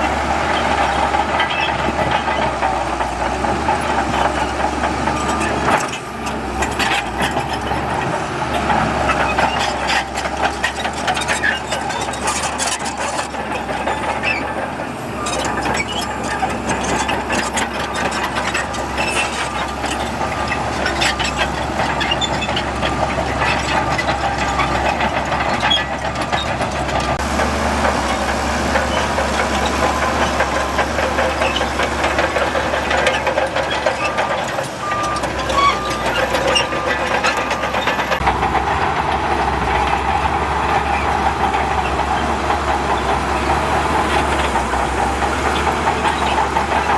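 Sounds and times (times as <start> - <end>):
heavy machinery diesel engines: 0.0 - 46.9.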